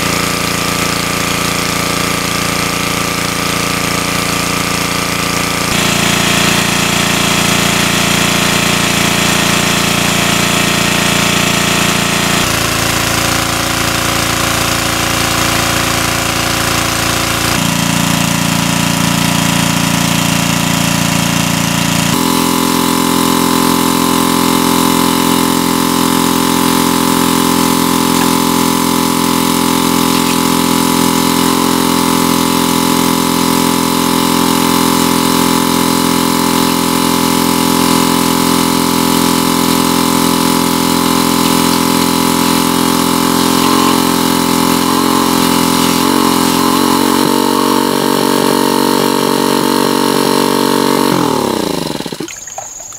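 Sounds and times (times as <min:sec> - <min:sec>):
water pump engine running: 0:00.0 - 0:52.9.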